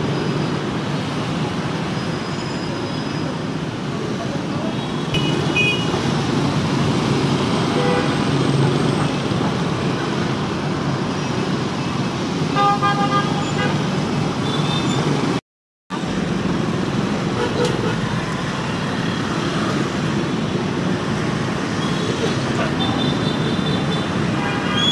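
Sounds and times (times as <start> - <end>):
dense street traffic: 0.0 - 24.9.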